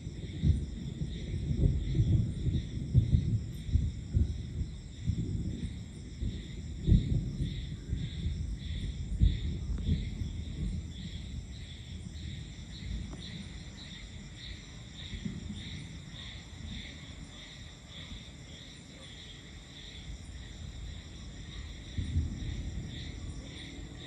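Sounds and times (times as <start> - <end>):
distant thunder rumbling: 0.0 - 24.0
night insects chirping: 0.0 - 24.0.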